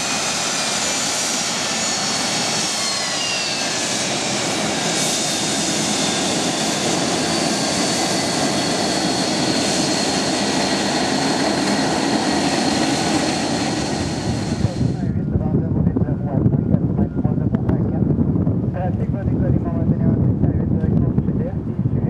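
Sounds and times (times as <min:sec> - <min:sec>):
jet engines whining: 0:00.0 - 0:18.4.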